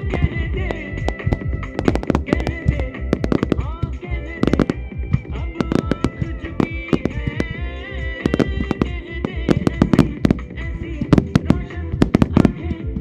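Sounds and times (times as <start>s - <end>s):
fireworks bangs: 0.0s - 13.0s
song with melody: 0.0s - 13.0s.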